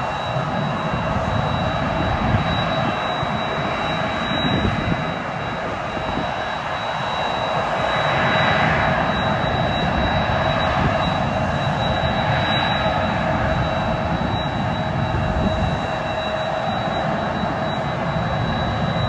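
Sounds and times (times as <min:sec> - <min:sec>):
high steady engine whine: 0:00.0 - 0:19.0
jet engines roaring: 0:00.0 - 0:19.0.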